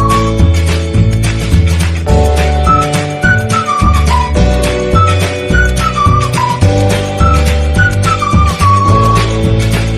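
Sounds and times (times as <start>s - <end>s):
flute-like melody: 0.0s - 0.6s, 2.1s - 9.7s.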